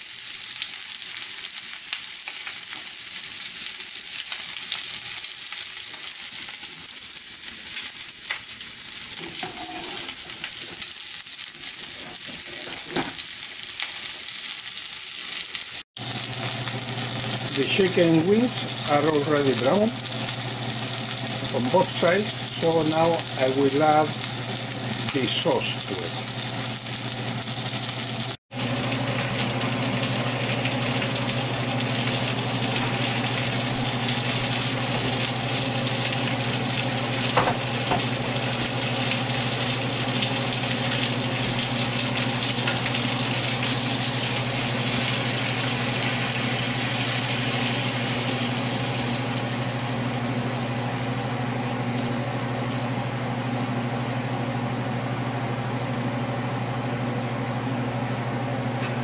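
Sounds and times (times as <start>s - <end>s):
chicken frying sizzle: 0.0s - 59.0s.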